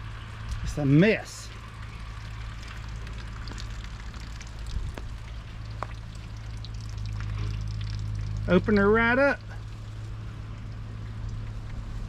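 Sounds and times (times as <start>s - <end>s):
low hum: 0.0s - 12.0s
soda fizzing and dripping: 1.5s - 12.0s.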